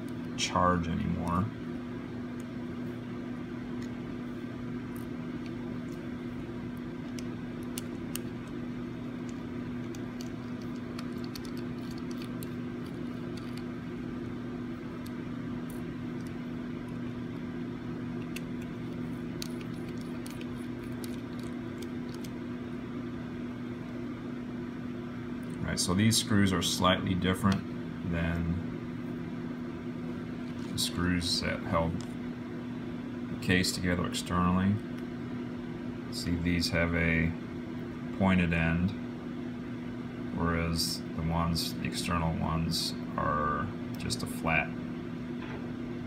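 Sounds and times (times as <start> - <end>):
low background hum with tone: 0.0 - 46.0.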